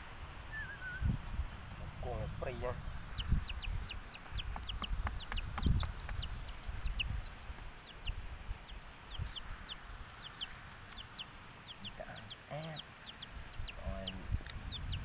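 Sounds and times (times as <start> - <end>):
chicks peeping: 2.0 - 15.0.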